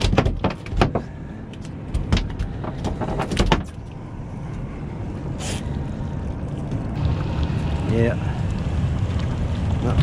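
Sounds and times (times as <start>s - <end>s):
steady low rumble: 0.7s - 10.0s.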